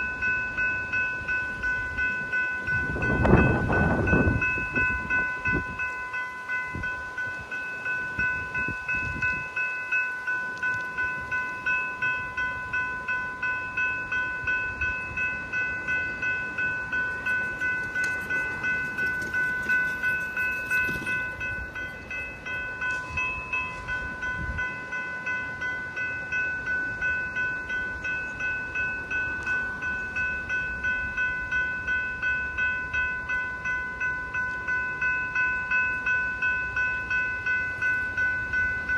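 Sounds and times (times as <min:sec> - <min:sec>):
level crossing bell ringing: 0:00.0 - 0:38.9.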